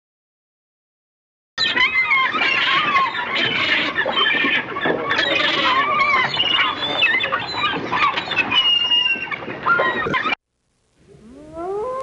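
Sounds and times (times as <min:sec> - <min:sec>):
gulls calling: 0:01.6 - 0:10.4, 0:11.0 - 0:12.0.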